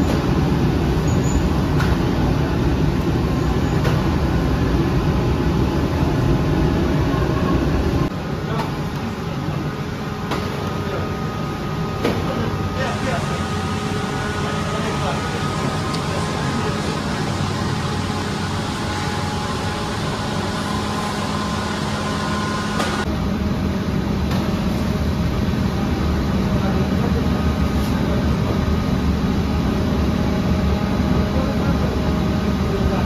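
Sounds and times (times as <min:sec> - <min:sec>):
bakery machinery humming: 0:00.0 - 0:33.0.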